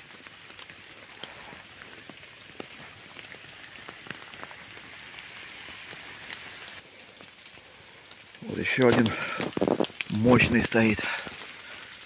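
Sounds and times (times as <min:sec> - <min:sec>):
light rain hissing: 0:00.0 - 0:12.0.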